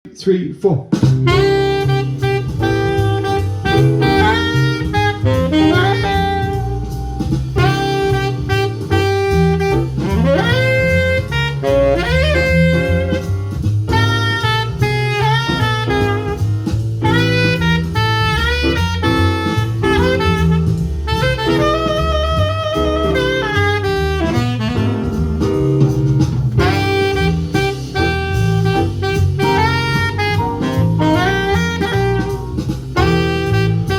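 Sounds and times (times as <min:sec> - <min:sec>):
jazz band playing: 0:01.0 - 0:33.9
count-in: 0:01.2 - 0:33.9
saxophone melody: 0:01.2 - 0:33.9.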